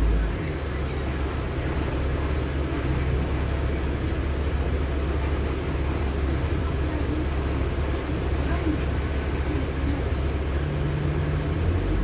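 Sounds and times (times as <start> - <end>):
bus engine hum: 0.0 - 12.0
road noise: 0.0 - 12.0.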